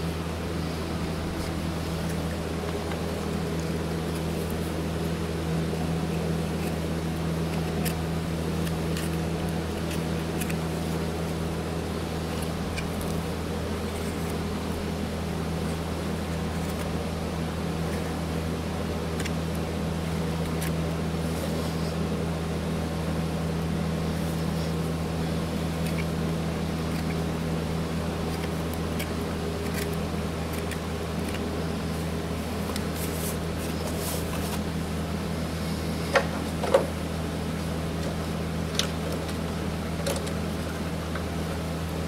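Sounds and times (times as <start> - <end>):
low machine hum: 0.0 - 42.0
hoof knife scraping hoof: 0.6 - 22.2, 24.0 - 36.5.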